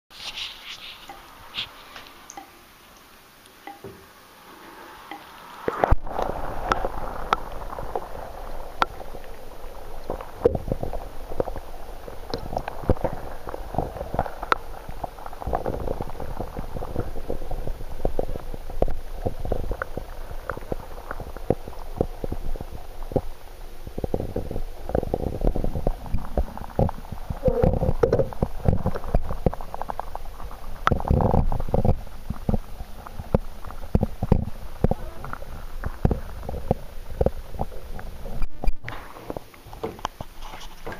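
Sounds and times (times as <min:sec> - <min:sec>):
muffled underwater rumble: 0:05.1 - 0:40.9
underwater knocks and clicks: 0:05.8 - 0:40.9.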